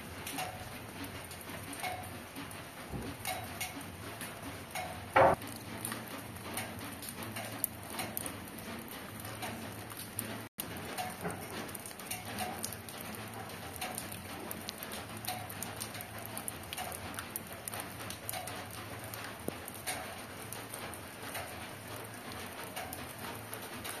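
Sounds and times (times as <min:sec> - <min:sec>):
rain on leaves and ground: 0:00.0 - 0:24.0.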